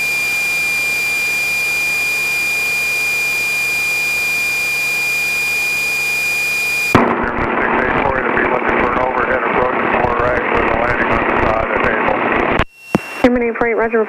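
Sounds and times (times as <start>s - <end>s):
aircraft cabin noise: 0.0s - 13.9s
steady high-pitched tone: 0.0s - 13.9s.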